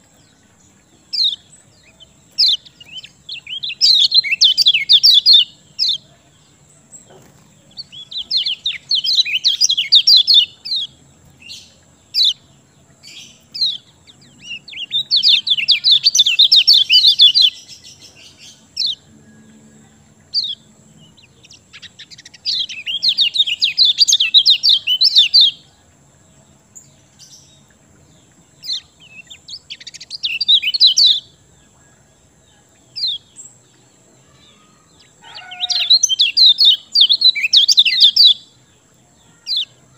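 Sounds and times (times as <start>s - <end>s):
bird high chattering calls: 0.0s - 6.3s, 7.0s - 19.1s, 20.2s - 25.7s, 28.2s - 31.4s, 32.9s - 38.6s, 39.2s - 39.9s.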